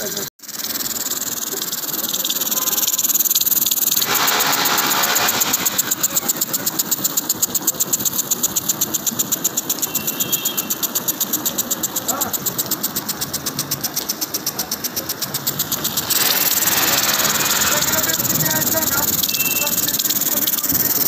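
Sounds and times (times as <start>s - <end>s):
sprinkler fast rattle: 0.0s - 21.0s
water spray hissing: 0.0s - 21.0s.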